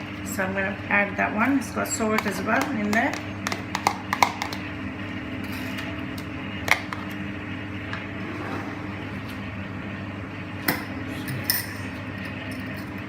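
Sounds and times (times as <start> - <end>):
kitchen appliance humming: 0.0 - 13.0.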